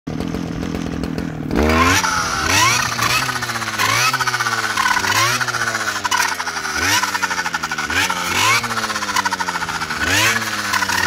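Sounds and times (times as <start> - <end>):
brush cutter revving: 0.1 - 11.0.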